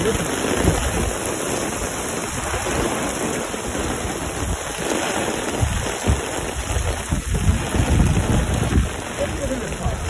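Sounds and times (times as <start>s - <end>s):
steady rain falling: 0.0s - 10.0s
wind buffeting microphone: 0.0s - 10.0s.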